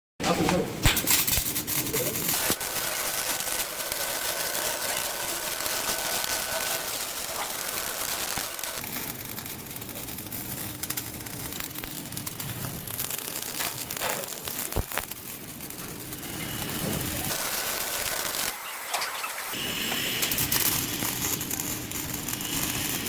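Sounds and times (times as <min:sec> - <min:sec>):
welding arc crackling: 0:00.4 - 0:23.0.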